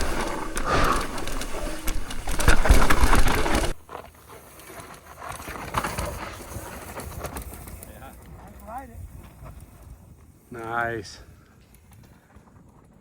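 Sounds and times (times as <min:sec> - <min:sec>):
bike rattling: 0:00.0 - 0:13.0
bike tyres crunching on dirt: 0:00.0 - 0:13.0.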